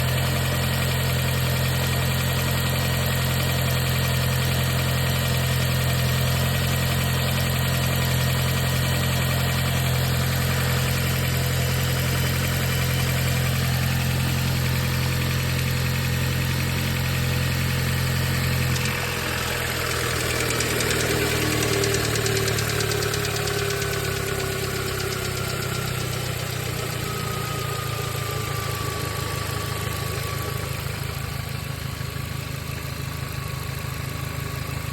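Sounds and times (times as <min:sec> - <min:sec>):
car engine idling with ticking: 0:00.0 - 0:34.9.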